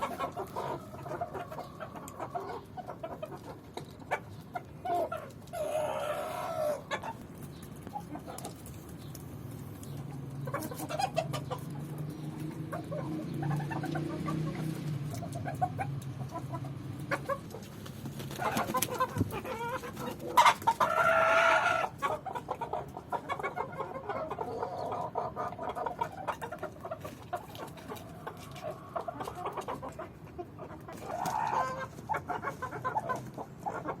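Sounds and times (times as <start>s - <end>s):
chickens clucking and calling: 0.0s - 34.0s.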